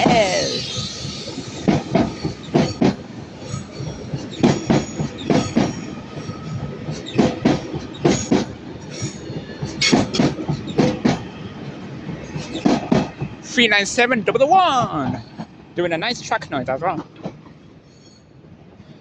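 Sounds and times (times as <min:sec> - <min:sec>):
train wheels clickety-clack: 0:00.0 - 0:18.3.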